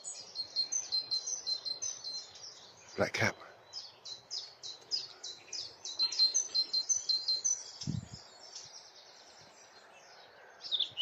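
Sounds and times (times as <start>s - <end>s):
bird warbling song: 0.0s - 11.0s.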